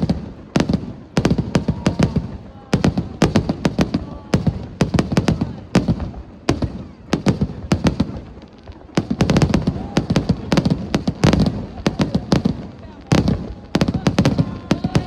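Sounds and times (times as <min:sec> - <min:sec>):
echoing fireworks booms: 0:00.0 - 0:15.0
fireworks bangs and cracks: 0:00.0 - 0:15.0.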